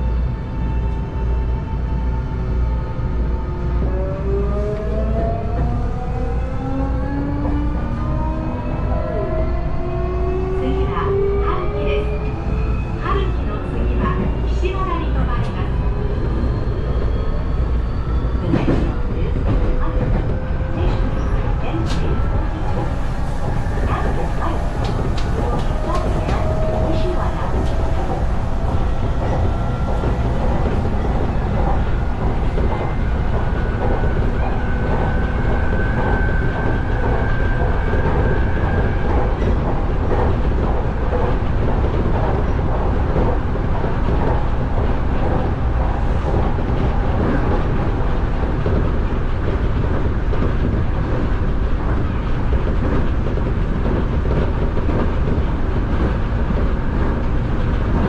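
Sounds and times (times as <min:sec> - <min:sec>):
train wheels rumbling on rails: 0:02.8 - 0:58.0.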